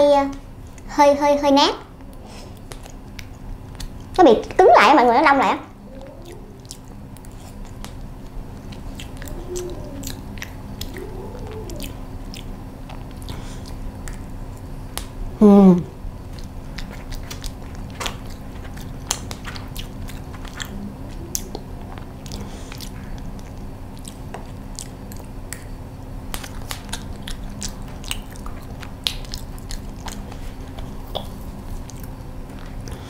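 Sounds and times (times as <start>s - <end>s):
close chewing and mouth smacks: 2.0s - 4.6s, 5.8s - 15.2s, 16.0s - 33.0s.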